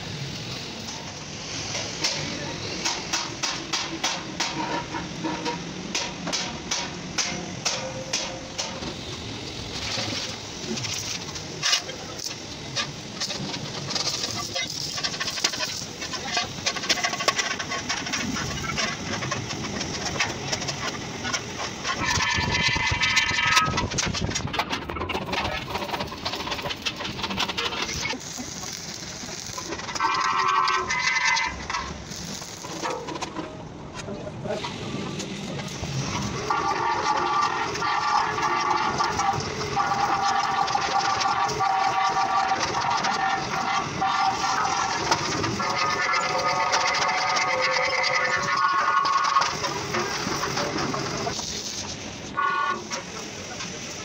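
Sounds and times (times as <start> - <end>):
welding hiss: 0.0 - 33.4, 34.5 - 54.0
arc welding crackling: 0.0 - 33.6, 34.6 - 54.0.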